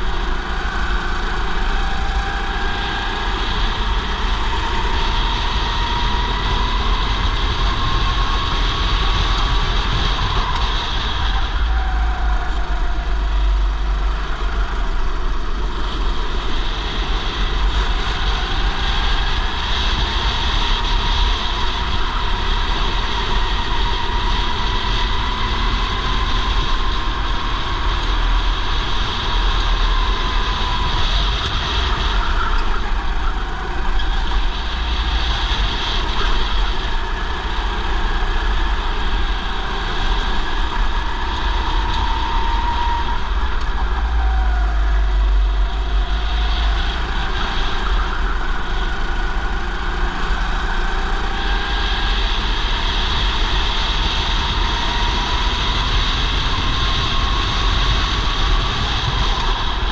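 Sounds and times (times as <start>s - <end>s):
kart engine running: 0.0s - 59.9s
wind buffeting microphone: 0.0s - 59.9s.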